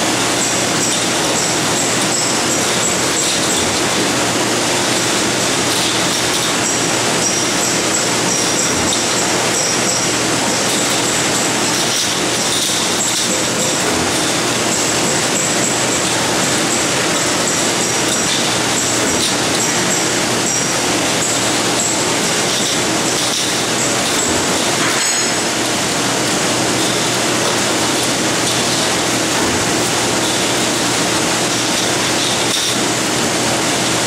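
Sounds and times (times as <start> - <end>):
high machine whine: 0.0 - 34.0
workshop machinery running: 0.0 - 34.0.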